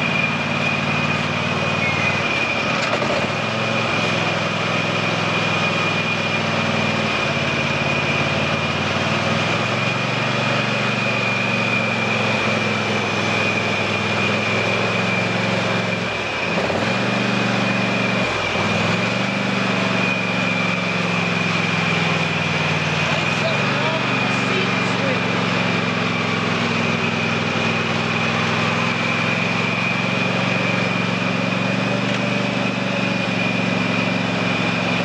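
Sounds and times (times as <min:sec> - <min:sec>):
lawn tractor engine running: 0:00.0 - 0:35.0
steady high whine: 0:00.0 - 0:35.0.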